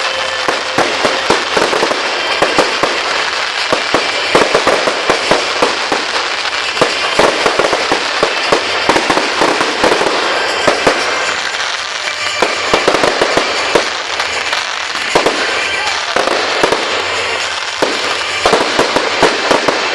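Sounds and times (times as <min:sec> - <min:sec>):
fireworks bangs and pops: 0:00.0 - 0:19.9
fireworks crackling: 0:00.0 - 0:19.9.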